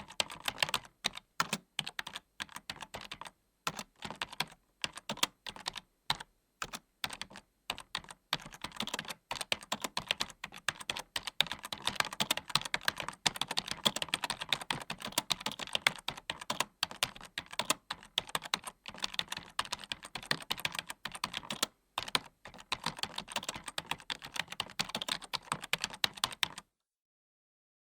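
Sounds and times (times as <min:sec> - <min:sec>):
typing on computer keyboard: 0:00.0 - 0:26.7.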